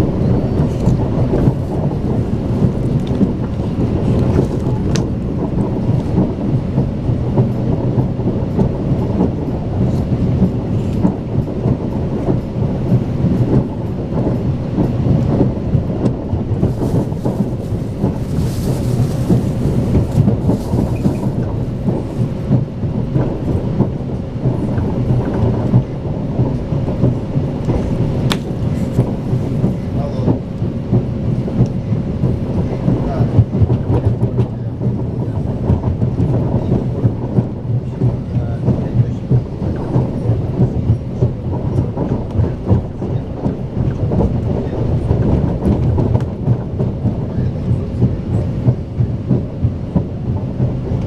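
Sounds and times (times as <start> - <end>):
train rumble inside carriage: 0.0 - 51.0.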